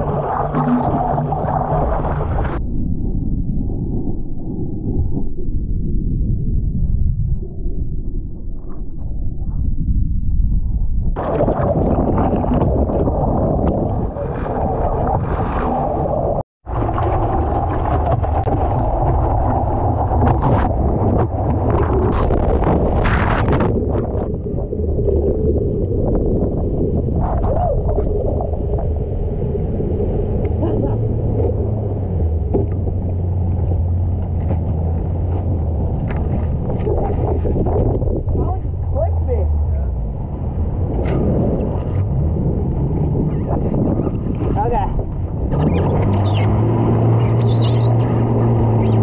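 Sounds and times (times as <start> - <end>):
white water churning and splashing: 0.0 - 2.6, 11.2 - 49.0
wind buffeting microphone: 0.0 - 49.0.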